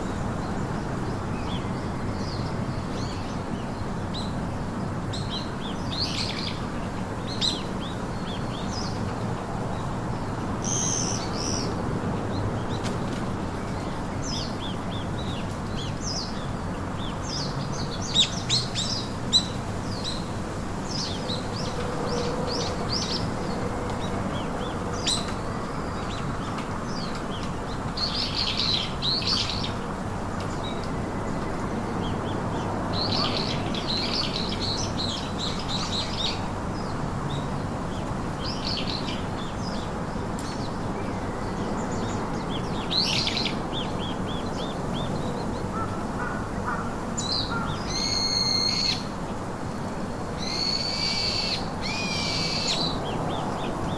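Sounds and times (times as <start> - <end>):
songbirds chirping: 0.0 - 53.9
steady background hiss: 0.0 - 53.9.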